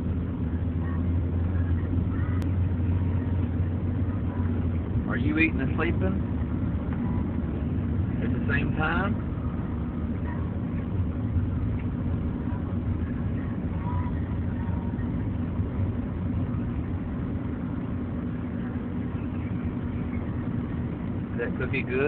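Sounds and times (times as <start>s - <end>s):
car running rumble inside cabin: 0.0s - 22.0s.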